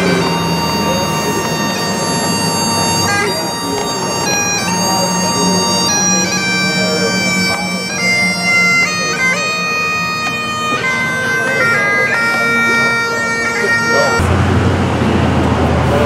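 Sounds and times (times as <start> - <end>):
bagpipes playing: 0.0 - 14.4.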